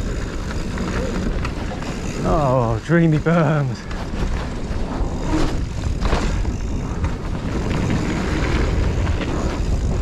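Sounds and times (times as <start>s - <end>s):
bike clattering over bumps: 0.0s - 10.0s
tyres rumbling over dirt: 0.0s - 10.0s
wind buffeting microphone: 0.0s - 10.0s.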